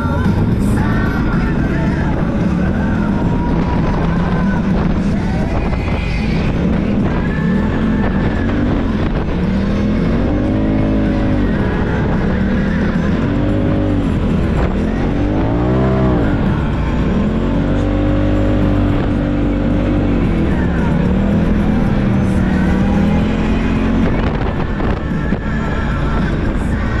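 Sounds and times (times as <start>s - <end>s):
steady rushing noise: 0.0s - 27.0s
utv engine revving: 0.0s - 27.0s.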